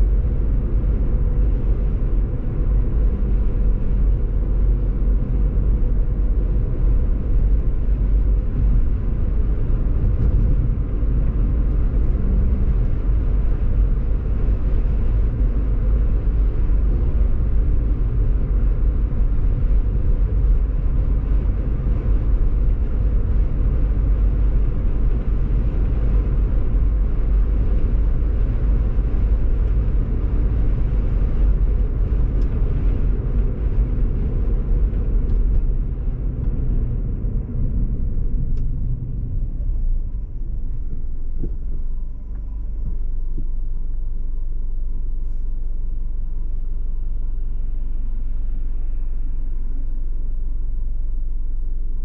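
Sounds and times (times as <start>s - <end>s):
tyre and road noise: 0.0s - 45.3s.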